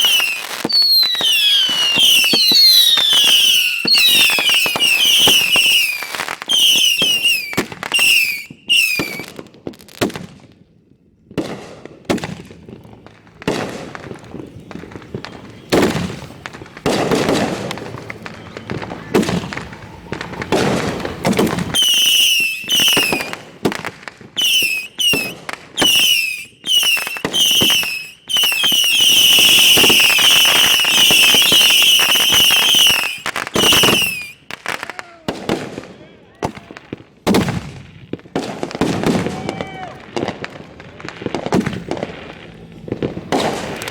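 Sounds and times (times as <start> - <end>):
firework whistles: 0.0 - 9.4, 12.2 - 36.0, 37.3 - 43.9
fireworks bangs and crackling: 0.0 - 43.9.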